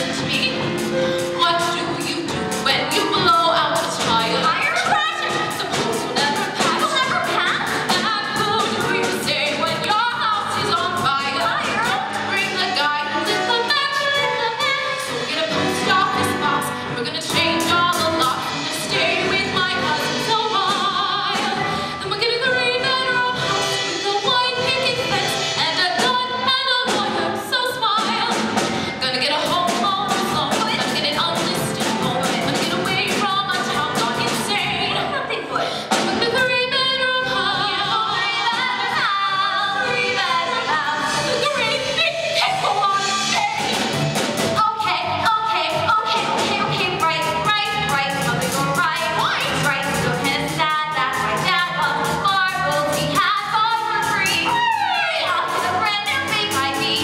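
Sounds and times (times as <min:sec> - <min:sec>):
instrumental accompaniment: 0:00.0 - 0:57.0
woman singing: 0:00.0 - 0:57.0.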